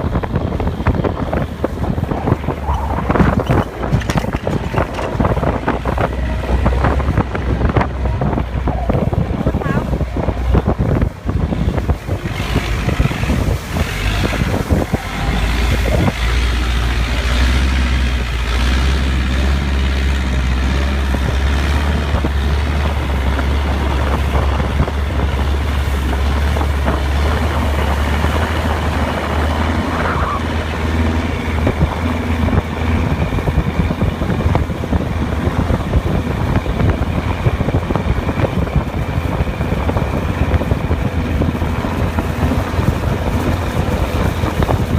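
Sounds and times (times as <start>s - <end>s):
boat engine humming: 0.0s - 44.9s
rushing water: 0.0s - 44.9s
wind buffeting microphone: 0.0s - 44.9s.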